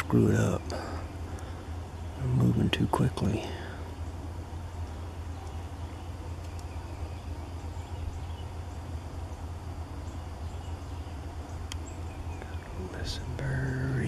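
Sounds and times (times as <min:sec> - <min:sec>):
faint bird chirps: 0:00.0 - 0:14.0
steady low rumble: 0:00.0 - 0:14.0.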